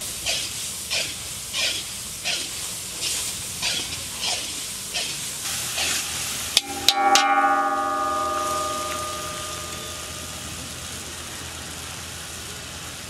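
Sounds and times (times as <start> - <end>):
hissing from iron pan over fire: 0.0 - 13.0.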